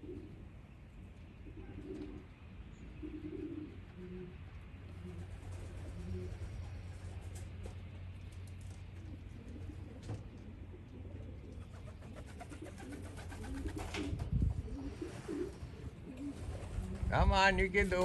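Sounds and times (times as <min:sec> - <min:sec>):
pigeons cooing: 0:00.0 - 0:17.1.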